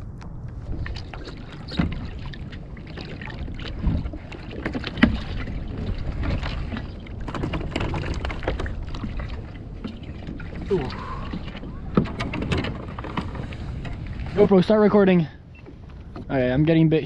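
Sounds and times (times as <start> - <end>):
wind on microphone: 0.0 - 14.6
water lapping against hull: 0.0 - 17.0.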